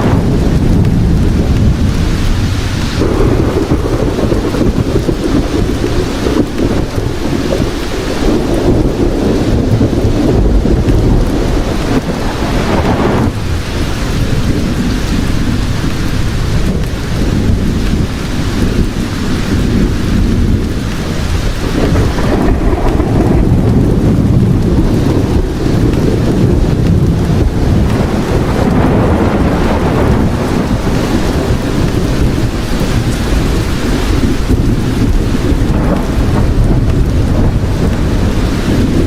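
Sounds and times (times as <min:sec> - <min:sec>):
heavy rain: 0:00.0 - 0:39.0
rolling thunder: 0:00.0 - 0:39.0.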